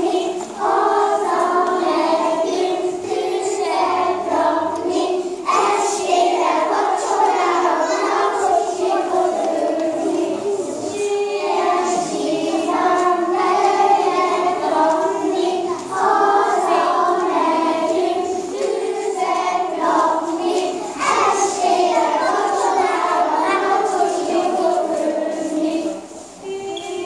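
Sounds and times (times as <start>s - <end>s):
children singing in chorus: 0.0s - 27.0s.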